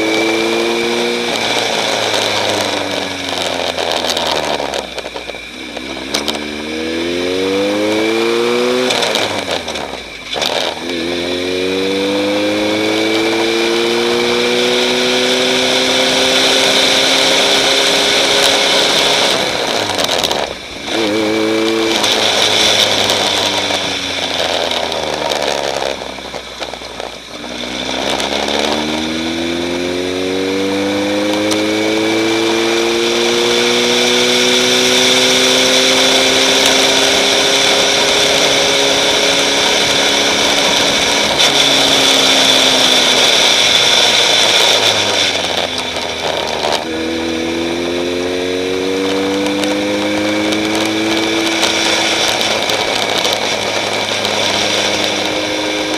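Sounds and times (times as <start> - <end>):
race vehicle engine under load: 0.0 - 55.9
wind and road noise: 0.0 - 55.9.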